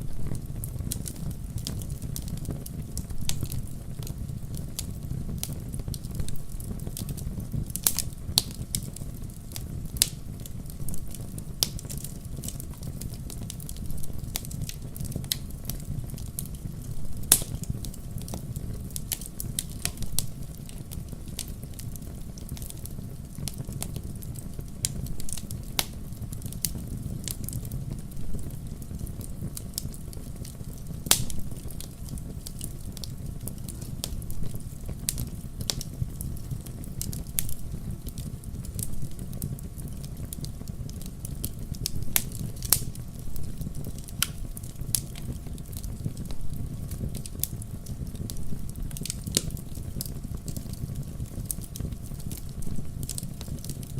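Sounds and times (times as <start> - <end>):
fire crackling and popping: 0.0 - 53.9
low rumble of flames: 0.0 - 53.9.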